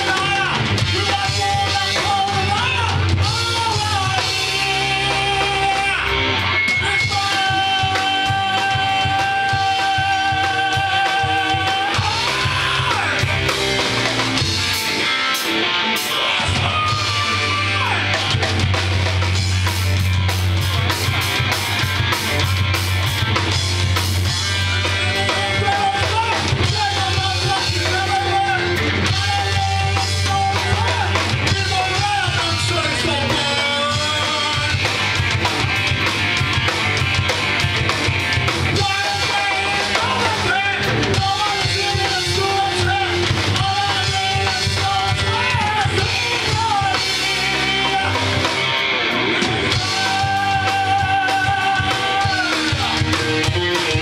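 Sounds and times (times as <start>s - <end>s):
person singing: 0.0s - 14.5s, 15.4s - 18.8s, 24.2s - 35.1s, 38.7s - 54.0s
drum kit: 0.0s - 54.0s
electric guitars: 0.0s - 54.0s
rock band playing loud: 0.0s - 54.0s.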